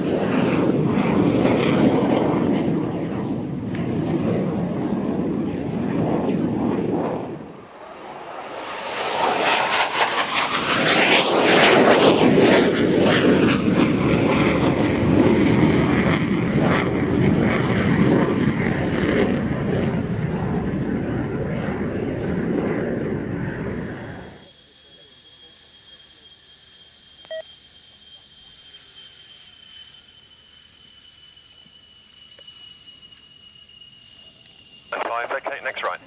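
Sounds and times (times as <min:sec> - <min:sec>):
aircraft engine roar: 0:00.0 - 0:36.0
aircraft whine falling in pitch: 0:00.0 - 0:36.0.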